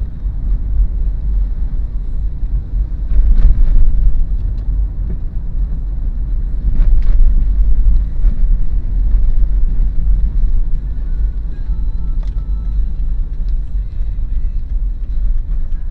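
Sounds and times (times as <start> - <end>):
car road rumble: 0.0 - 15.9.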